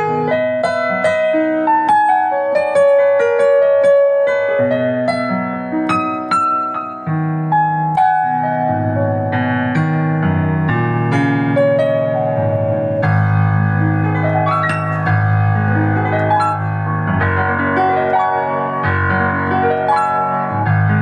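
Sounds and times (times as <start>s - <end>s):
digital piano melody: 0.0s - 21.0s.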